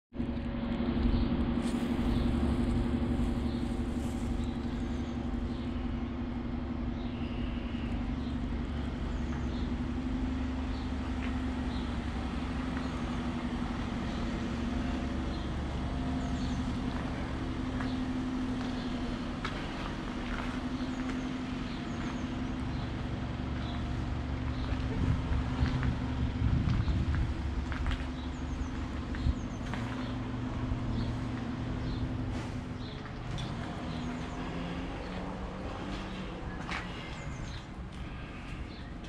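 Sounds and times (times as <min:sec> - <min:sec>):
low mechanical hum: 0:00.2 - 0:39.0.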